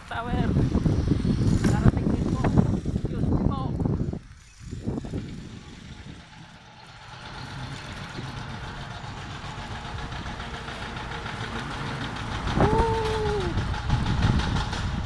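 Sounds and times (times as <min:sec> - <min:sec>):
traffic noise: 0:00.0 - 0:15.0
wind: 0:00.0 - 0:15.0.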